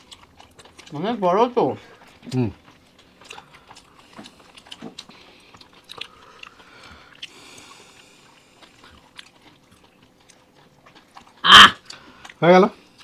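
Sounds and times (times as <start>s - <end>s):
people chewing and biting food: 0.0s - 13.0s.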